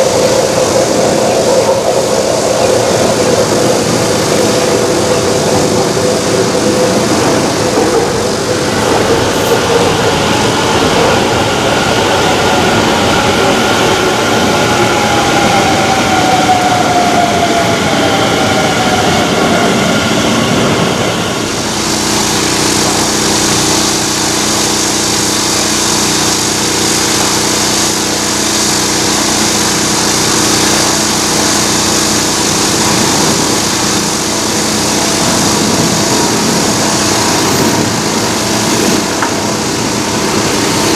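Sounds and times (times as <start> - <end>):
jet engine hum with high hiss: 0.0 - 40.9
jet engine whine falling in pitch: 0.0 - 40.9.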